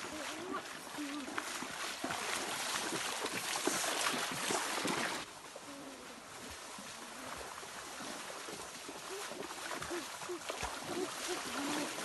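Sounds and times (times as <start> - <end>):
feet splashing in water: 0.0 - 12.0
running water: 0.0 - 12.0.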